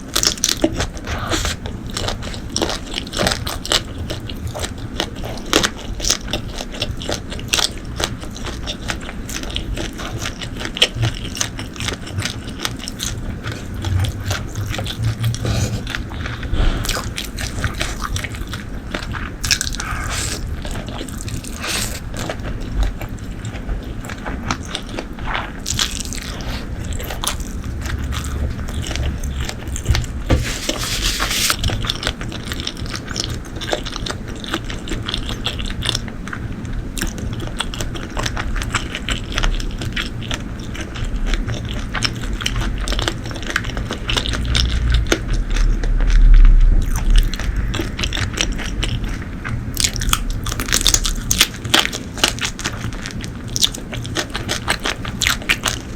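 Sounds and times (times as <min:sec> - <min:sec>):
chewing with mouth smacks: 0:00.0 - 0:55.9.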